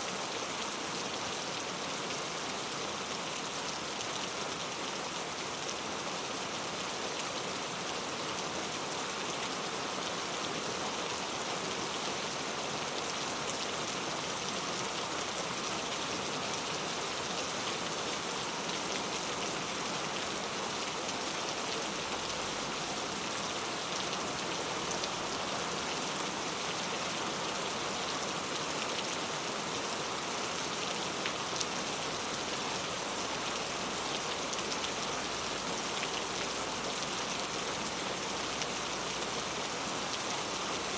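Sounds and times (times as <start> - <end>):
rain falling into a puddle: 0.1 - 40.9.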